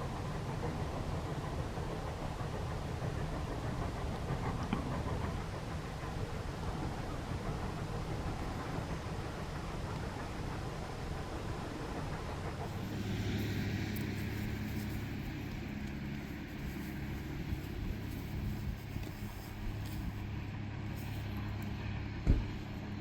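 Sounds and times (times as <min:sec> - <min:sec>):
train coach rumble and hum: 0:00.0 - 0:23.0.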